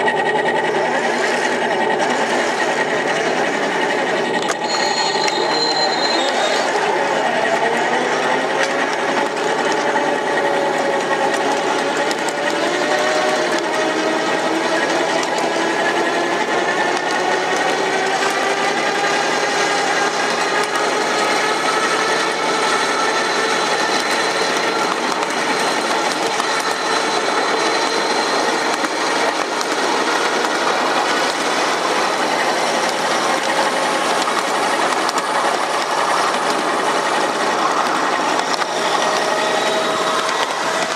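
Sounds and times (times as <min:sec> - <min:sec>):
locomotive wheels clattering: 0:00.0 - 0:40.9
thin drive whine: 0:00.0 - 0:40.9.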